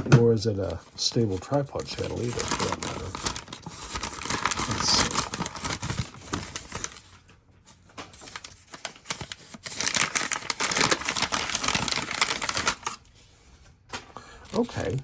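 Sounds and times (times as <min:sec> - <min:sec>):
plastic packaging crinkling: 0:00.3 - 0:15.0.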